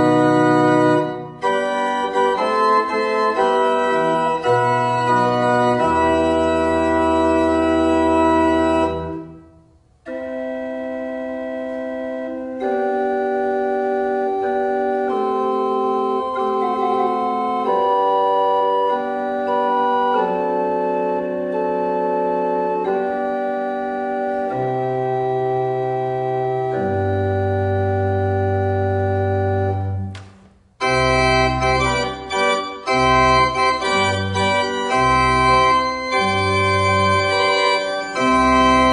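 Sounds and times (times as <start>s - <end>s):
pipe organ playing chords: 0.0s - 38.9s.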